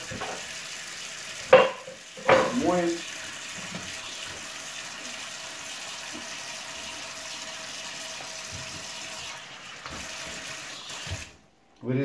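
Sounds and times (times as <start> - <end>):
tap water splashing into sink: 0.0 - 11.4.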